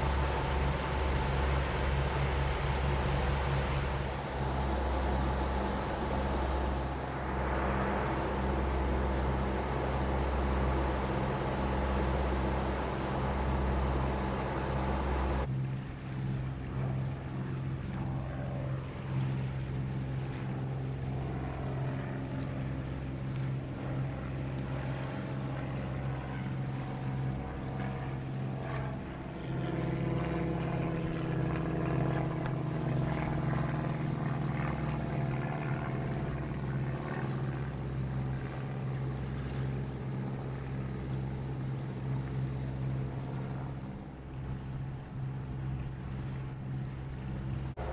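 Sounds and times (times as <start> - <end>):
diesel engine drone: 0.0 - 47.9
hiss of wind and water: 0.0 - 47.9.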